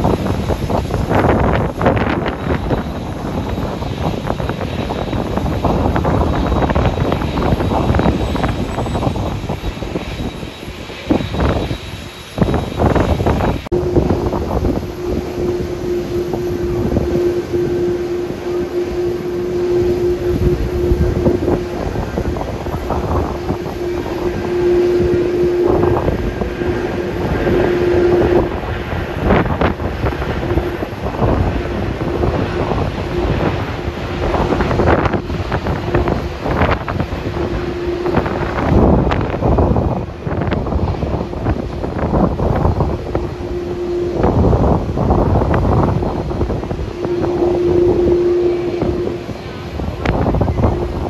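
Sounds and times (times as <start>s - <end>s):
jet engines humming: 0.0s - 51.0s
wind buffeting on microphone: 0.0s - 51.0s.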